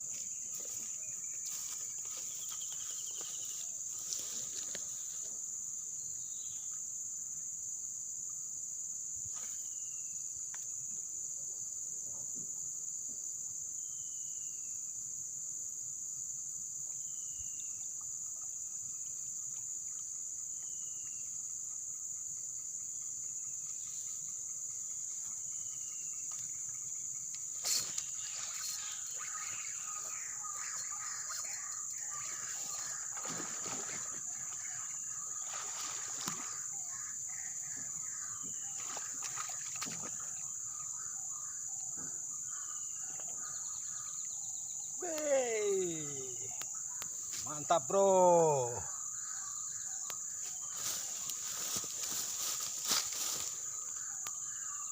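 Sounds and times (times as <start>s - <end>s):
insects droning: 0.0s - 54.9s.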